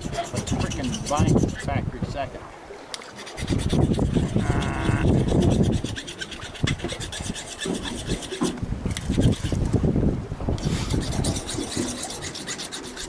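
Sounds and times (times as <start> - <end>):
rubbing and scraping: 0.0 - 2.2, 3.0 - 9.7, 10.6 - 13.0.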